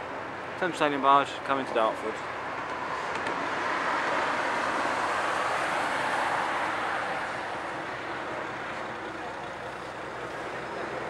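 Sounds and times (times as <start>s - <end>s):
road traffic passing over bridge: 0.0s - 11.0s.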